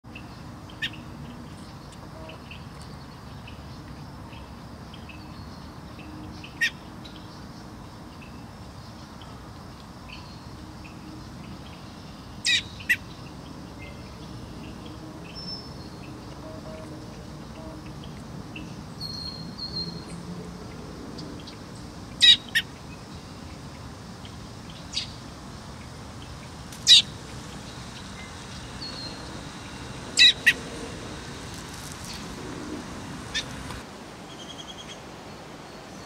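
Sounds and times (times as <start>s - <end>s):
songbirds chirping: 0.0s - 36.0s
steady low background noise: 0.1s - 36.0s.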